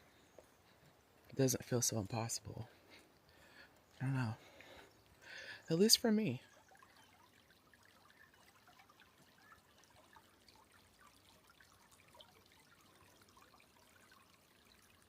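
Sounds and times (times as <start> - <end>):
trickle of water: 0.1 - 15.0.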